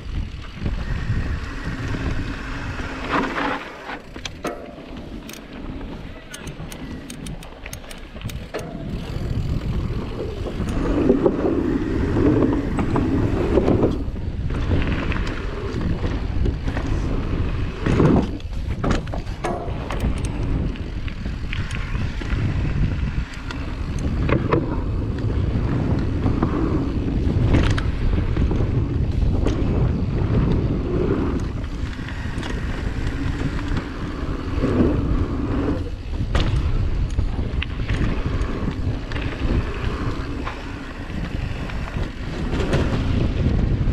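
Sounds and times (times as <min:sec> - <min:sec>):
bike rattling and knocking: 0:00.0 - 0:43.9
tyres rolling on dirt trail: 0:00.0 - 0:43.9
tyres rolling on wooden planks: 0:00.0 - 0:43.9
wind on microphone: 0:00.0 - 0:43.9.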